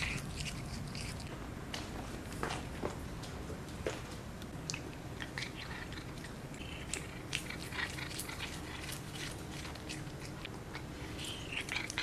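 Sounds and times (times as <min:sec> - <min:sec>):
cat chewing grass: 0:00.0 - 0:02.8, 0:04.4 - 0:12.0.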